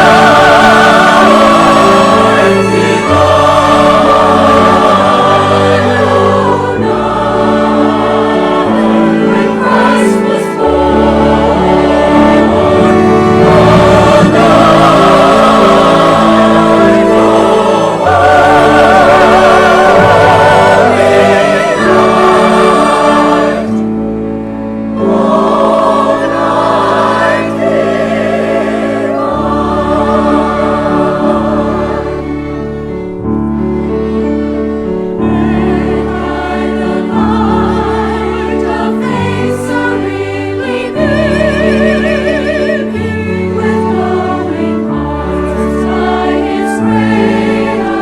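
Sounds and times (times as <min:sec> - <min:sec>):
choir singing: 0:00.0 - 0:48.0
instrumental accompaniment: 0:00.0 - 0:48.0.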